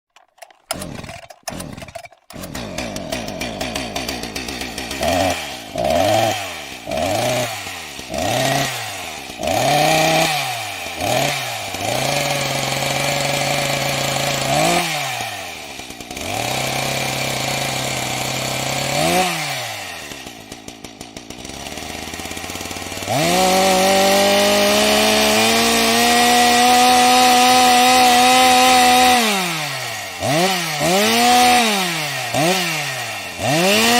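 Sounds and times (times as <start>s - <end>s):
chainsaw engine revving: 0.2s - 33.9s.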